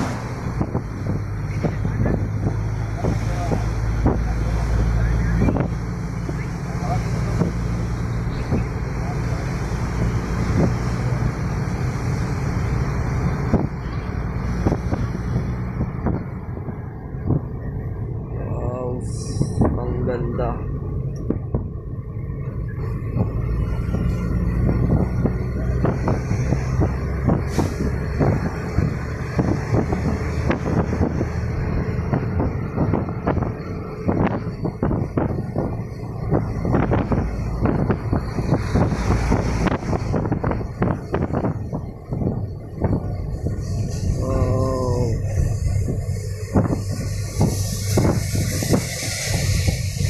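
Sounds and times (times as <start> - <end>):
truck engine hum: 0.0 - 50.0
vehicle engine and road noise: 0.0 - 50.0.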